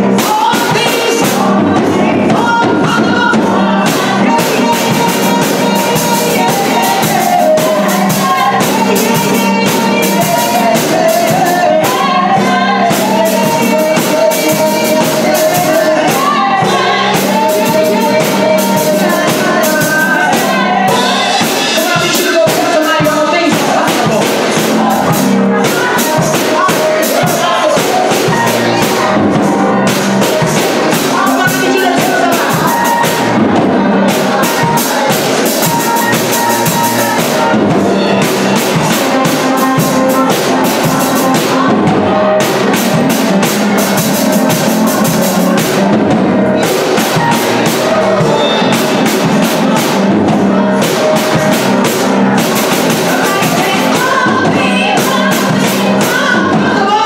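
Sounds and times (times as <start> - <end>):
drum kit: 0.0 - 57.0
piano: 0.0 - 57.0
women singing into microphones: 0.0 - 57.0.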